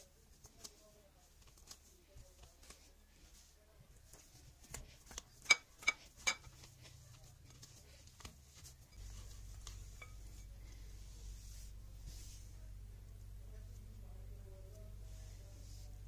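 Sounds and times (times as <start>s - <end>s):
hands kneading sticky dough: 0.0s - 16.0s
low steady hum: 0.0s - 16.0s.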